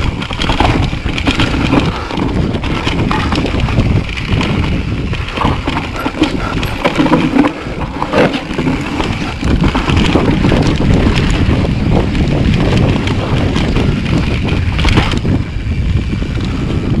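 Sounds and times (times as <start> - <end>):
bike knocking and rattling: 0.0 - 17.0
tyres rumbling on dirt: 0.0 - 17.0
wind buffeting microphone: 0.0 - 17.0.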